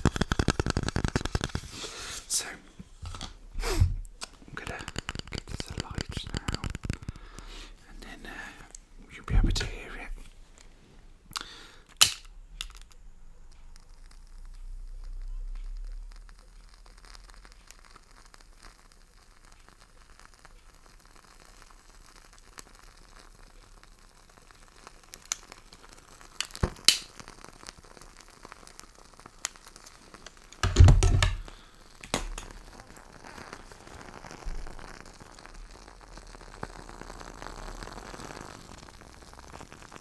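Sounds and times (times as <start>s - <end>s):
match striking: 0.0s - 8.8s, 11.4s - 13.0s, 13.7s - 40.0s
wooden wick crackling: 0.0s - 40.0s.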